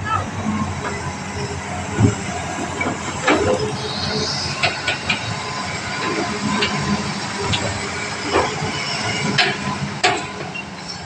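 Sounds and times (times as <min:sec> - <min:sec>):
excavator engine: 0:00.0 - 0:11.0.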